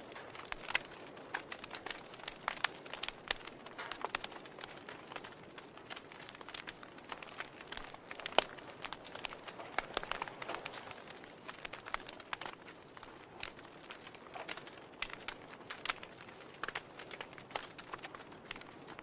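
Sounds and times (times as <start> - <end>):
sharp pops and snaps: 0.0 - 19.0
wood fire crackling: 0.0 - 19.0.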